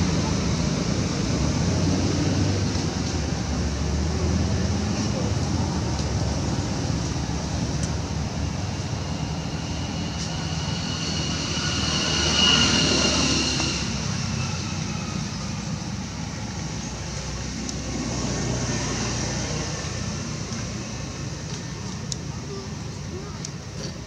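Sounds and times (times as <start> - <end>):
engine passing by: 0.0 - 23.1.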